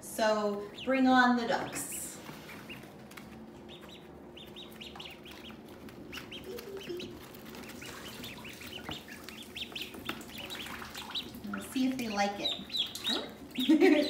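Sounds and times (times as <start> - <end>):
ducklings peeping: 0.2 - 14.0.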